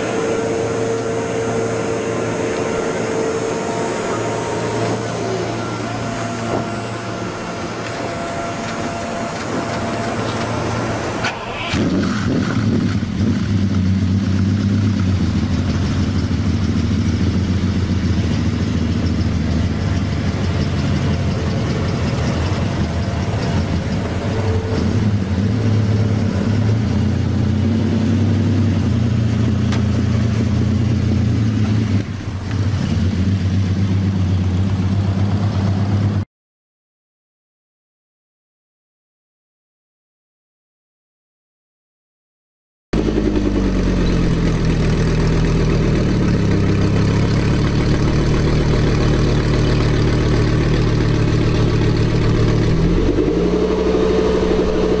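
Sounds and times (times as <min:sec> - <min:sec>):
car engine running: 0:00.0 - 0:36.2, 0:43.0 - 0:55.0.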